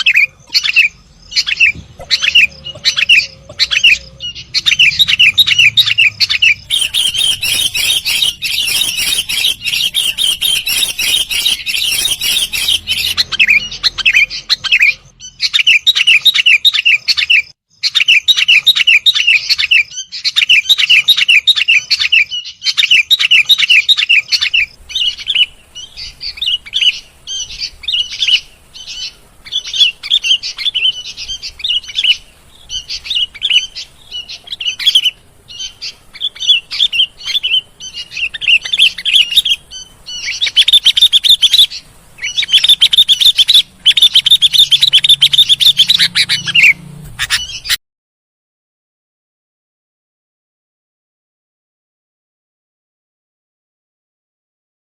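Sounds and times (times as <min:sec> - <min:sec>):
bulbul singing: 0:00.0 - 0:47.8.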